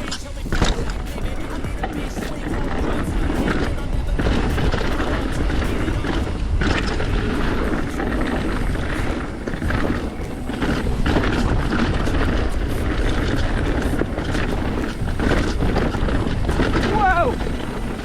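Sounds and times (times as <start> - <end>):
bike rattling: 0.0 - 18.0
bike tyre and trail noise: 0.0 - 18.0
wind rushing over microphone: 0.0 - 18.0.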